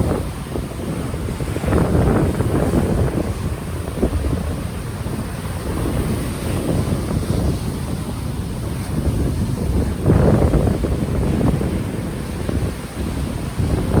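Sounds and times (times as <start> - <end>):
ocean waves washing on shore: 0.0 - 14.0
wind buffeting microphone: 0.0 - 14.0.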